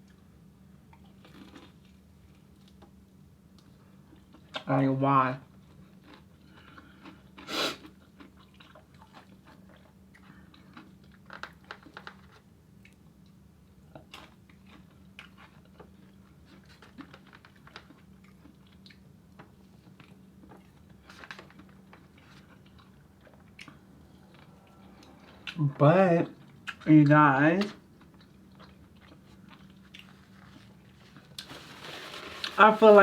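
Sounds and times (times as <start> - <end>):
faint steady hum: 0.0 - 33.0
person chewing food: 0.9 - 3.0, 5.6 - 25.6, 26.3 - 26.9, 27.6 - 31.6.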